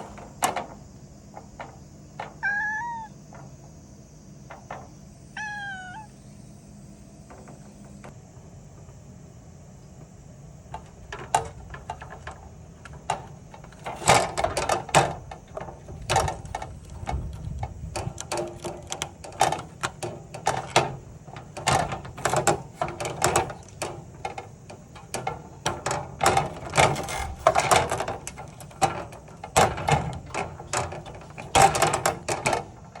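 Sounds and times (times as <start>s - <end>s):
cicada buzzing and fluttering: 0.0s - 33.0s.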